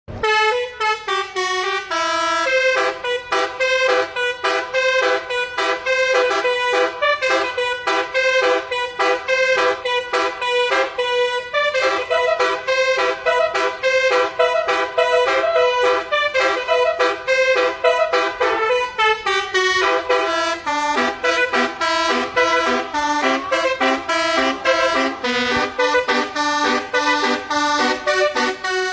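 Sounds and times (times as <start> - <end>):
multi-tone air horn melody: 0.1 - 28.9.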